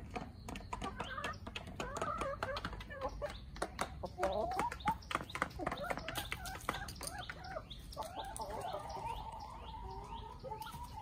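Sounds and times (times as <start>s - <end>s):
chickens clucking: 0.0s - 11.0s
small bird chirping: 0.0s - 11.0s.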